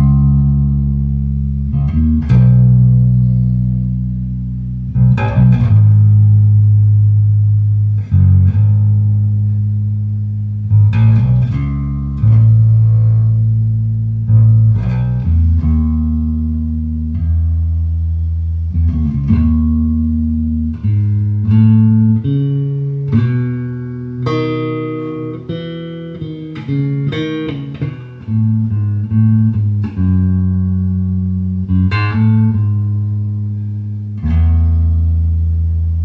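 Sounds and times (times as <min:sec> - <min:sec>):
bass guitar plucked notes: 0:00.0 - 0:36.0.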